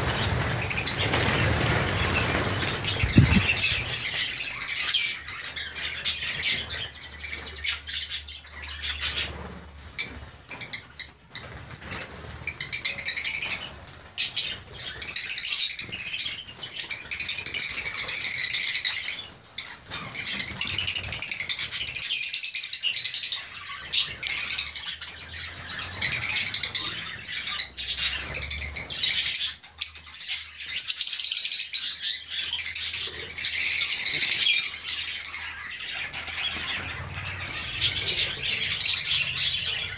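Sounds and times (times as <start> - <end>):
birds chirping shrilly: 0.0 - 39.9.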